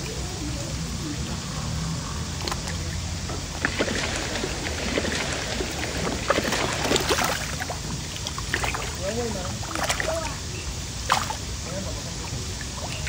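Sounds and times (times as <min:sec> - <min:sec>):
fish splashing in a pond: 0:00.0 - 0:13.0
steady low hum: 0:00.0 - 0:13.0.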